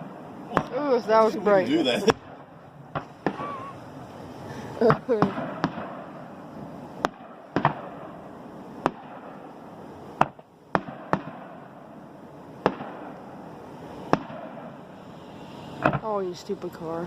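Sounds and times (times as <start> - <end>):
fireworks bangs: 0.0 - 16.8
steady background hiss: 0.0 - 17.0.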